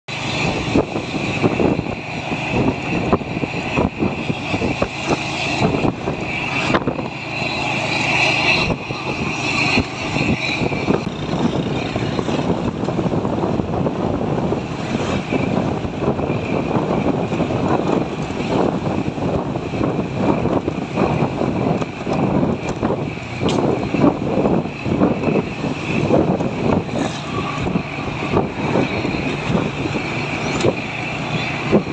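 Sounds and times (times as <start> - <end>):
truck engine and road noise: 0.0 - 31.9.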